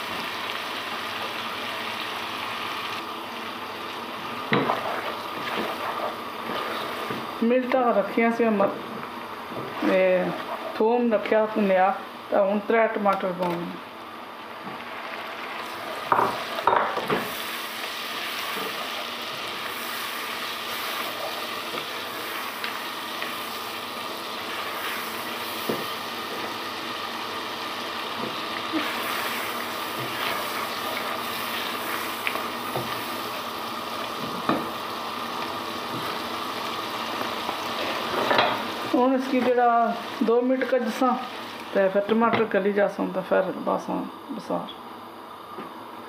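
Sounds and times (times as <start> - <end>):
tomatoes sizzling in a pot: 0.0 - 46.0.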